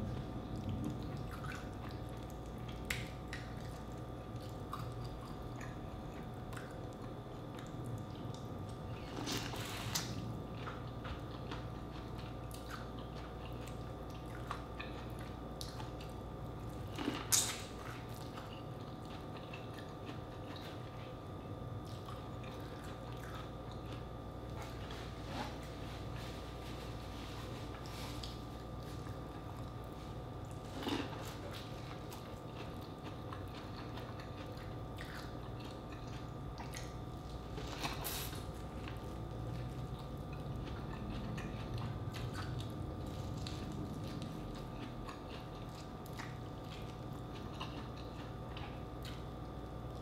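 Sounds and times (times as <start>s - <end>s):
wet chewing and smacking: 0.1s - 50.0s.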